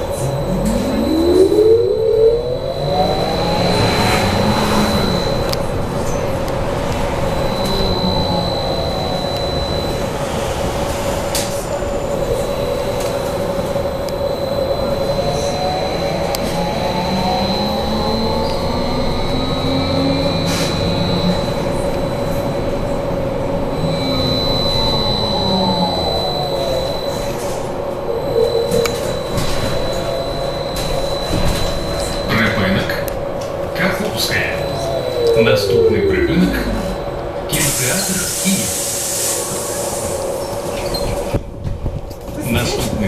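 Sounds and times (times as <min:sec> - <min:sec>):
steady high tones: 0:00.0 - 0:41.2
electric traction drive whining: 0:00.0 - 0:43.0.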